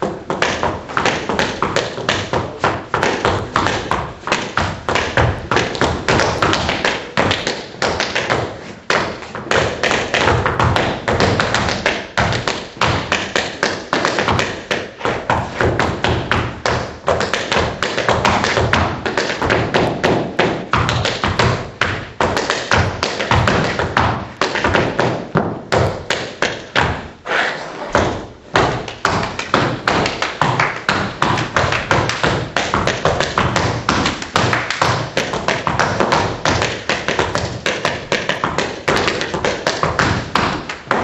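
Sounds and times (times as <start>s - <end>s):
tap shoes striking floor: 0.0s - 27.1s, 27.9s - 41.0s.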